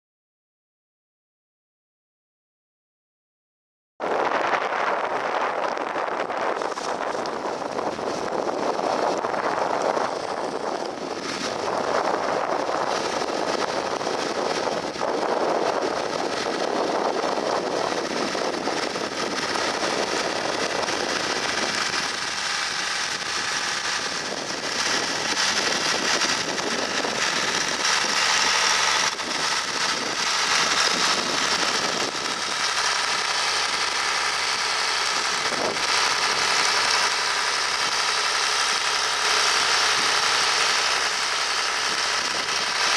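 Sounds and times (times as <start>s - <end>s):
tractor diesel engine running: 4.2s - 42.9s.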